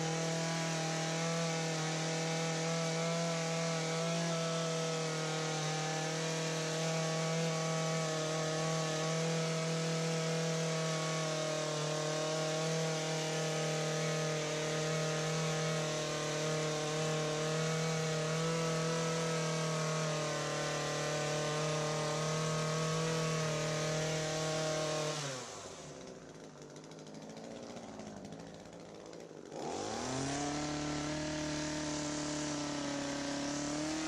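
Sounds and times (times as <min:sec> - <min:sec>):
hedge trimmer engine running: 0:00.0 - 0:34.0.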